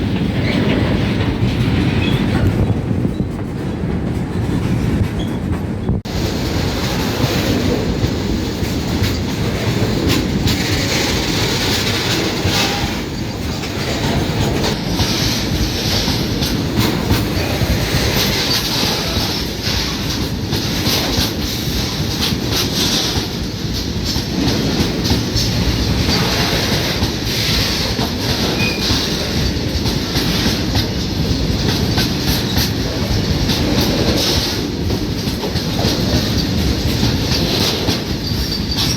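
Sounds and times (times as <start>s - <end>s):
freight train rolling past: 0.0s - 38.9s
wheels clattering over rail joints: 0.0s - 38.9s.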